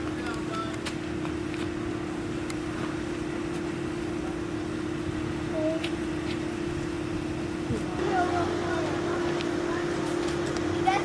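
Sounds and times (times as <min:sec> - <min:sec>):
outdoor background noise: 0:00.0 - 0:11.0
steady mechanical hum: 0:00.0 - 0:11.0.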